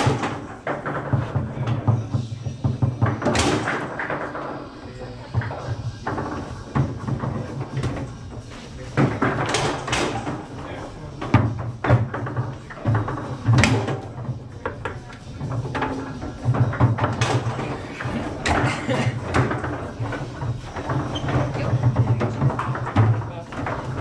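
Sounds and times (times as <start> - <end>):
table football clacks and knocks: 0.0 - 4.6, 5.3 - 24.0.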